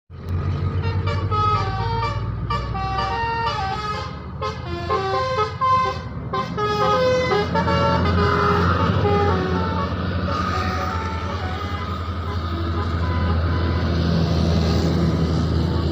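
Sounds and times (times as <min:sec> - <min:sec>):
bus engine rumbling: 0:00.1 - 0:15.9
bus multi-tone horn tune: 0:00.4 - 0:15.9.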